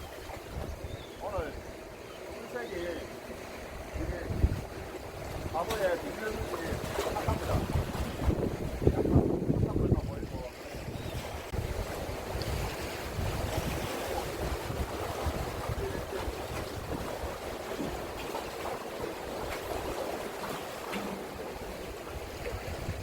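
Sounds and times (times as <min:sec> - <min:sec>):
sea waves on shore: 0:00.0 - 0:23.0
wind buffeting microphone: 0:00.0 - 0:23.0.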